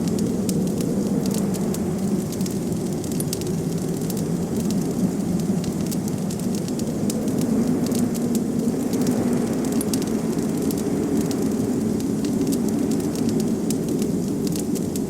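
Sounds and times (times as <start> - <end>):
blizzard wind rushing: 0.0 - 15.0
wood fire crackling: 0.0 - 15.0.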